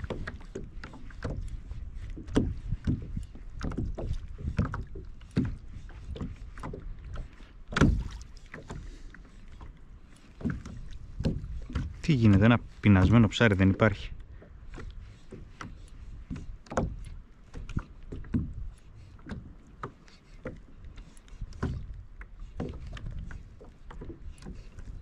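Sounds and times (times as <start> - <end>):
water lapping against kayak hull: 0.0 - 25.0.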